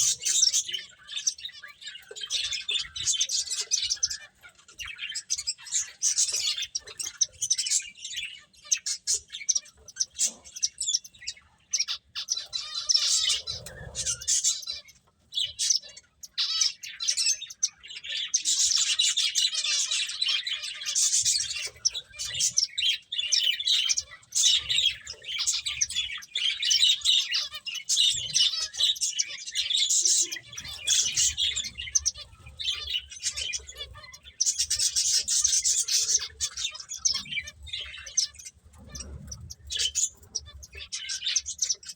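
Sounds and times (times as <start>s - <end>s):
finches chirping: 0.0s - 41.9s.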